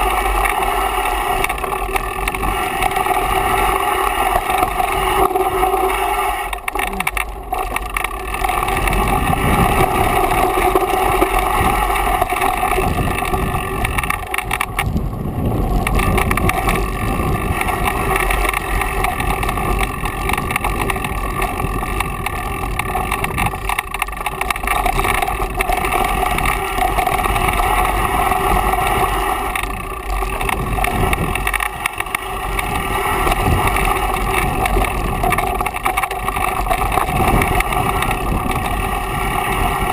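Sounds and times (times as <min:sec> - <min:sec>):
bike tyres rumbling on rough trail: 0:00.0 - 0:39.9
buzzing drone: 0:00.0 - 0:39.9
wind noise: 0:00.0 - 0:39.9.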